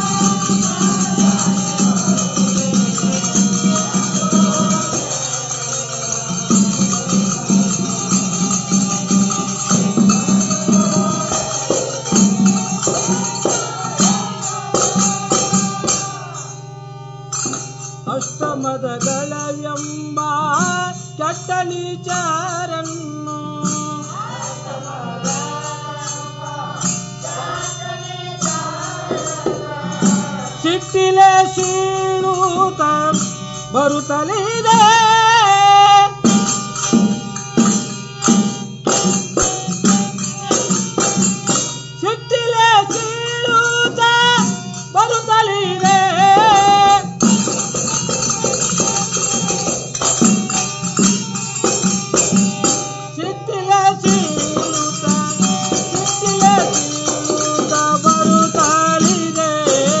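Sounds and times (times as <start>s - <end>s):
hand percussion: 0.0s - 60.0s
men singing devotional song: 0.0s - 60.0s.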